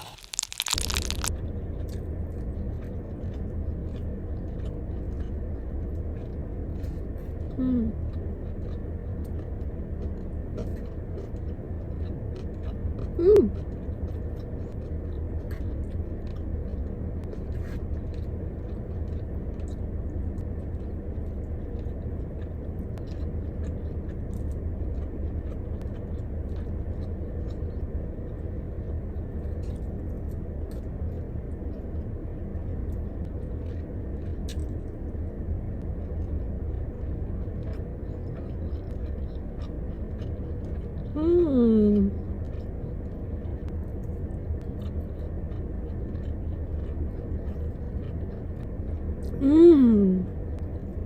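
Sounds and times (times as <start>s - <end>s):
person chewing food: 0.0s - 49.4s
car engine and heater fan hum: 1.2s - 51.0s.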